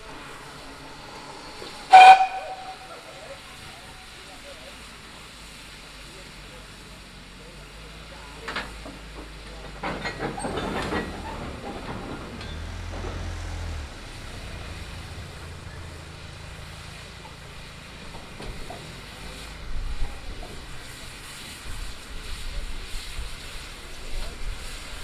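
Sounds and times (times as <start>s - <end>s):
steam hissing: 0.0s - 25.0s
steam locomotive moving slowly: 0.0s - 25.0s.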